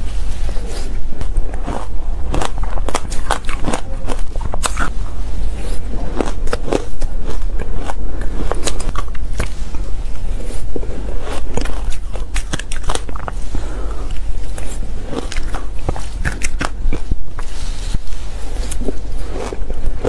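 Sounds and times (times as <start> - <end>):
chewing and crunching ice: 0.4 - 20.0.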